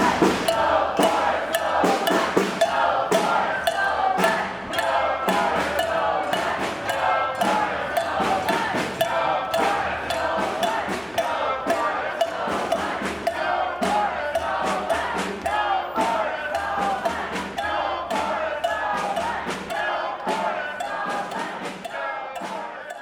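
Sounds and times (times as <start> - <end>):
group singing in unison: 0.0 - 23.0
sharp percussion hits: 0.0 - 23.0.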